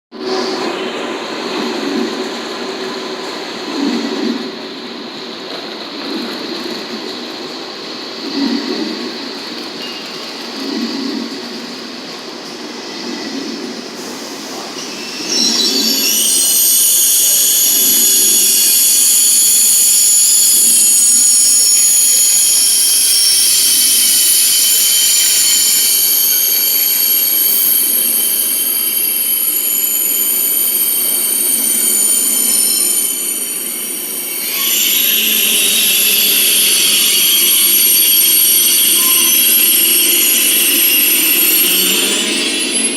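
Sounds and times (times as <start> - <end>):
train squealing: 0.2 - 42.9.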